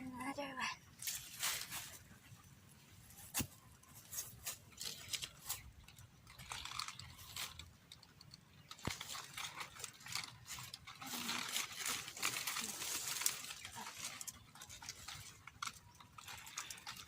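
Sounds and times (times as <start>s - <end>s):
dry leaves rustling and crackling: 1.0s - 2.2s, 3.1s - 17.0s.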